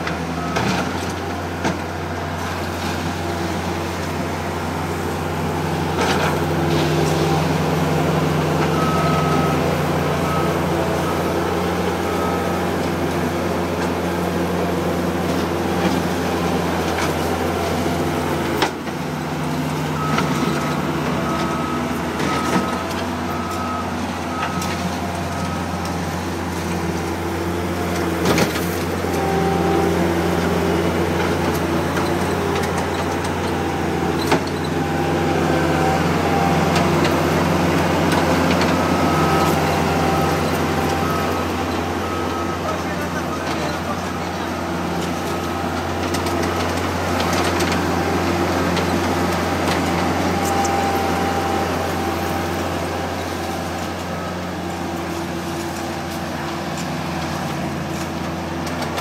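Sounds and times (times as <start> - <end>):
diesel engine running: 0.0 - 59.0
backup alarm beeping: 4.5 - 55.6.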